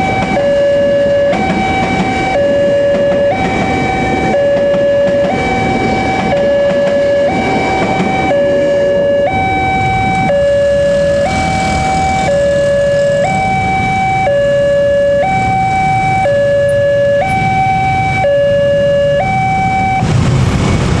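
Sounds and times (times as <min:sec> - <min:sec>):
level-crossing two-tone alarm: 0:00.0 - 0:20.1
motorbike and car engines: 0:00.0 - 0:21.0.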